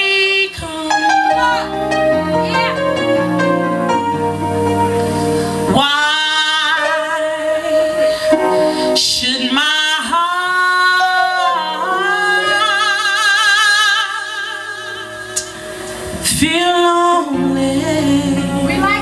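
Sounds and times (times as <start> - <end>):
woman singing a hymn: 0.0 - 4.2, 5.7 - 15.4, 16.0 - 19.0
keyboard accompaniment: 0.0 - 19.0.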